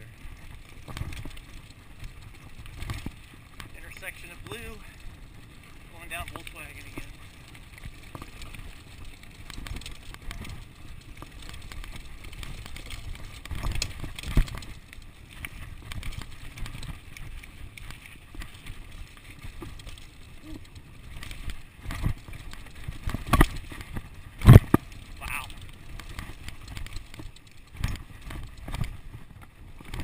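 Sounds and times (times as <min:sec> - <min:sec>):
bike knocking on bumps: 0:00.0 - 0:30.0
bike rattle: 0:00.0 - 0:30.0
tyres rumbling on dirt: 0:00.0 - 0:30.0.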